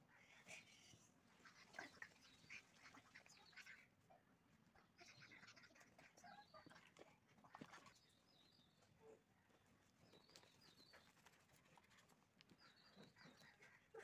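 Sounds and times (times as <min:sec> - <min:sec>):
faint bird chirps: 0:00.1 - 0:14.0.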